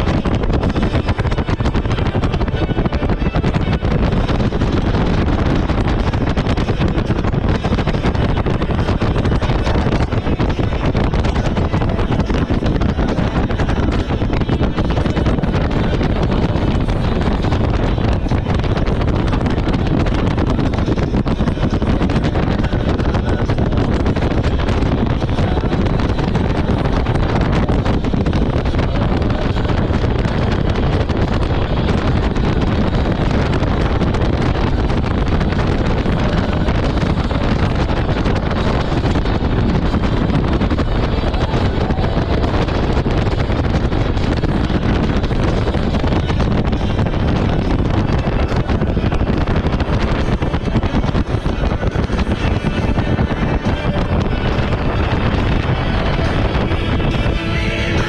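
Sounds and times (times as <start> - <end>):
jet ski engine running: 0.0 - 58.0
wind buffeting microphone: 0.0 - 58.0.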